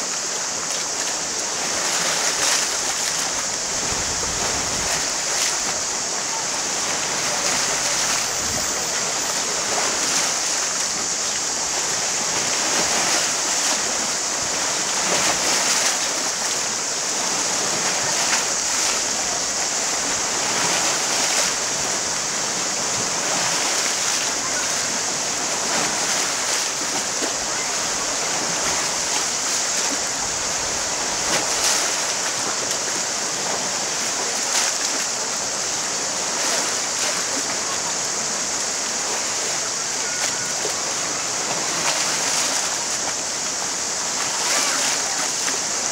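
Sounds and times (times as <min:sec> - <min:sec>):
high-pitched hiss: 0:00.0 - 0:45.9
waves washing on pebble beach: 0:00.0 - 0:45.9.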